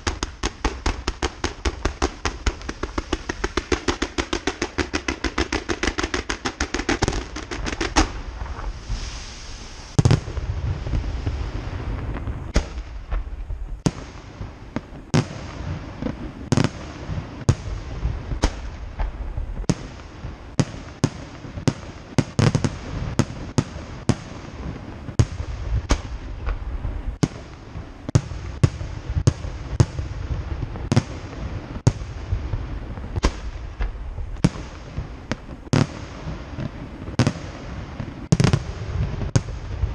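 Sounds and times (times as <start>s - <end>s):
firework bang: 0.0s - 21.2s, 25.1s - 31.2s, 31.8s - 39.9s
firework crackling: 0.0s - 39.9s.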